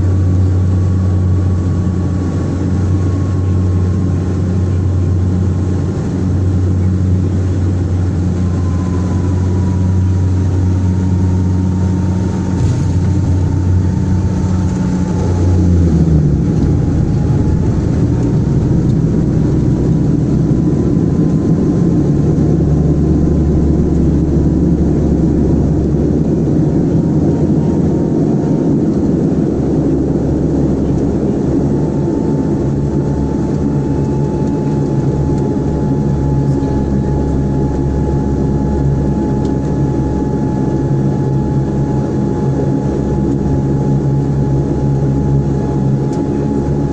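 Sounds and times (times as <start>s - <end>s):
propeller engines humming: 0.0s - 46.9s.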